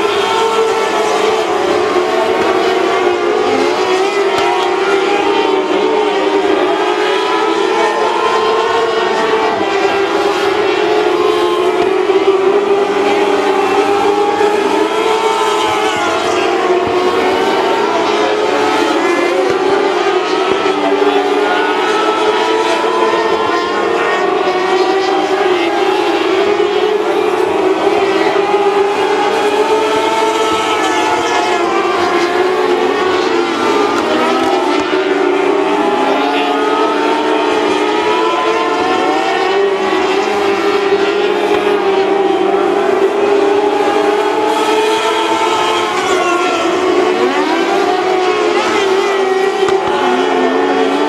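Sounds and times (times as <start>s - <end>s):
race car engines: 0.0s - 51.0s.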